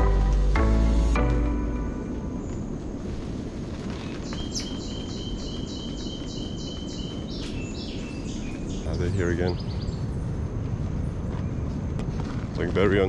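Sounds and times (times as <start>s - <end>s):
jungle background noise: 0.0s - 13.0s.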